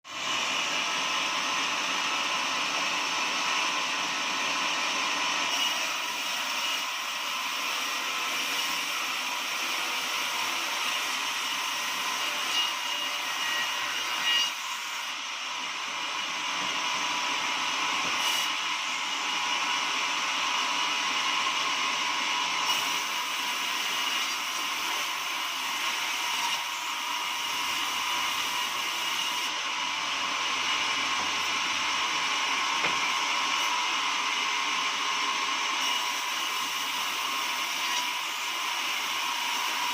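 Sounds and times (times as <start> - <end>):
sawmill machine whining: 0.2 - 39.9.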